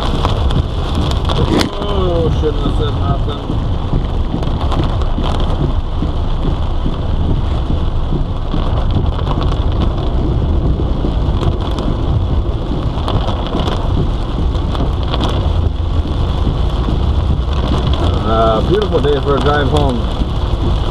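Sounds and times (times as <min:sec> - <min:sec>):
heavy rain on a car: 0:00.0 - 0:20.9.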